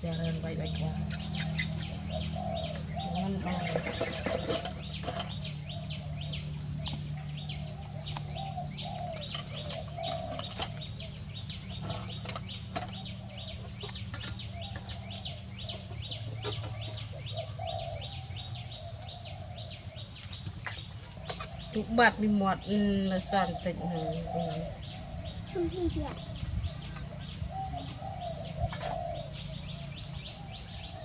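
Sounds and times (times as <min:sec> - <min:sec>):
birds chirping: 0:00.0 - 0:31.0
lower wavering bird calls: 0:00.0 - 0:31.0
steady low hum: 0:00.0 - 0:31.0.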